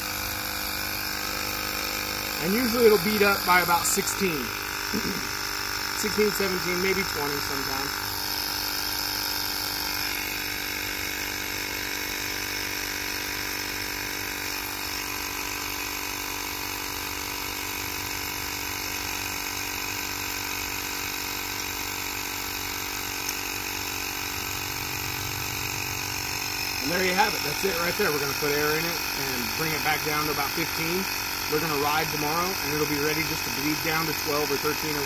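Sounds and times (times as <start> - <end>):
tire inflator running: 0.0 - 35.0.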